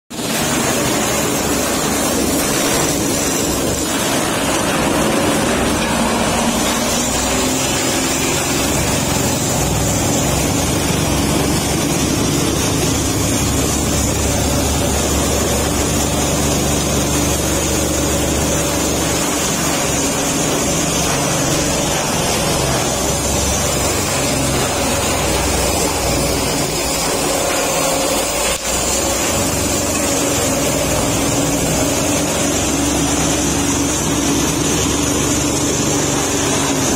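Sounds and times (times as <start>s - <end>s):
corn stalk chopper shredding: 0.1s - 36.9s.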